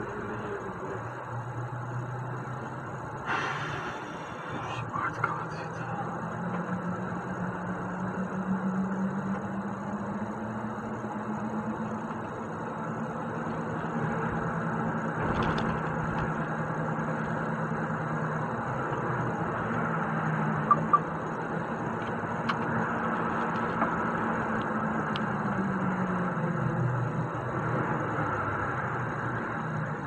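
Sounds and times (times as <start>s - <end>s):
road noise: 0.0s - 30.0s
truck diesel engine running: 0.0s - 30.0s.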